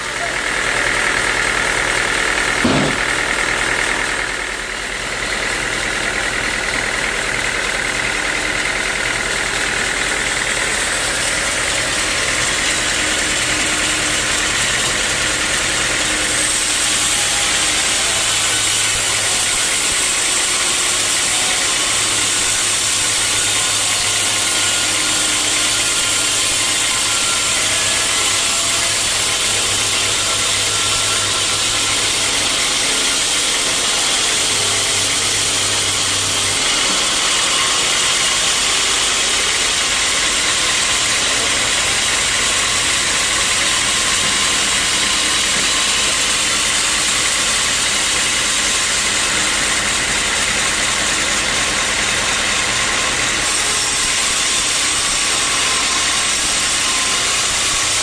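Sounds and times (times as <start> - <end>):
sawmill machinery hum and hiss: 0.0 - 58.0.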